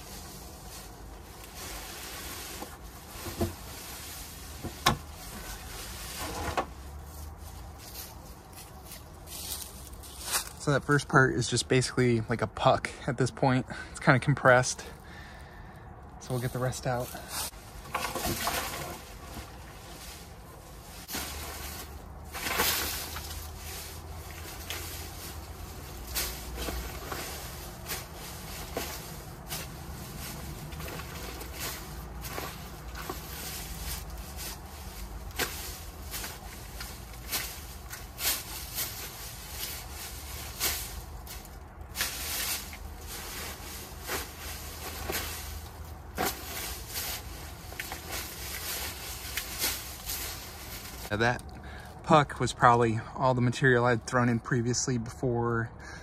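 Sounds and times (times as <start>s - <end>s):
dry leaves rustling and crunching: 0.0s - 11.2s, 16.2s - 51.4s.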